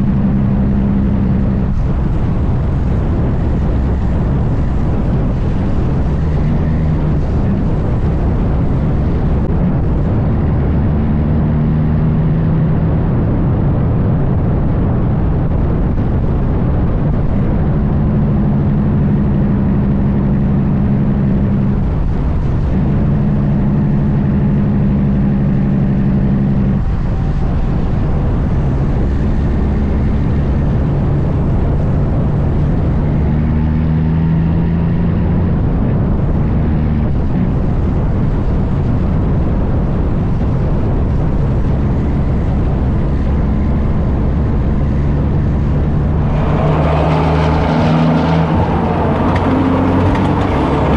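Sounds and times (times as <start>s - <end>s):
diesel truck engine: 0.0s - 50.9s.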